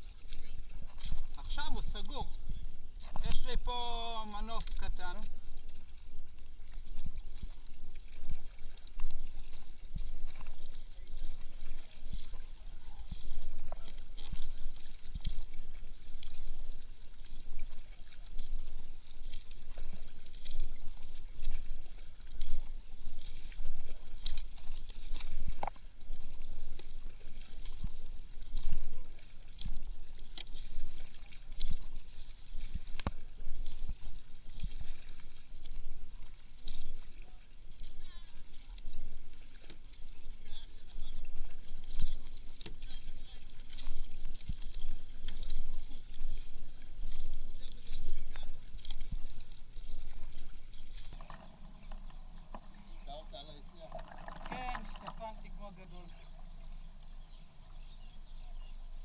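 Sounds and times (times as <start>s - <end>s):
paddle splashing in water: 0.0s - 59.0s.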